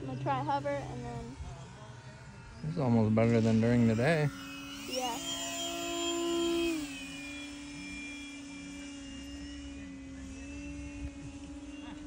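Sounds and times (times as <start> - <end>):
model airplane motor whining: 0.0 - 12.0.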